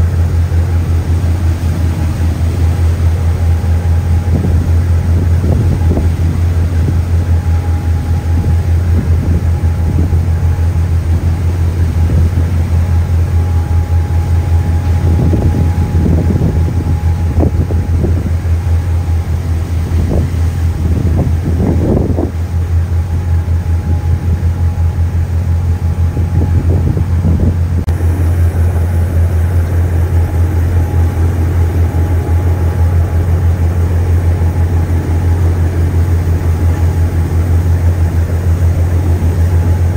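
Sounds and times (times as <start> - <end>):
ship engines droning: 0.0 - 39.9
thin steady whine: 0.0 - 39.9.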